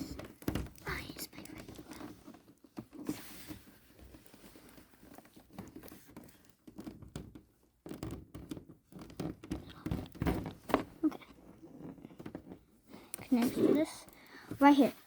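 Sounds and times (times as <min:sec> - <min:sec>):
cables and plugs rustling and clicking: 0:00.0 - 0:15.0.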